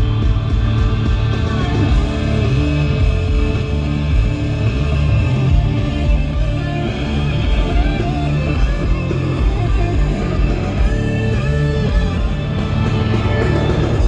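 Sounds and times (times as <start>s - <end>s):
rock music through car stereo: 0.0s - 14.0s.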